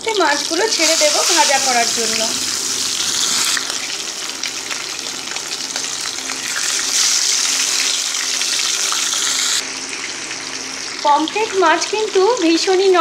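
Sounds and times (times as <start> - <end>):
fish sizzling in hot oil: 0.1 - 13.0.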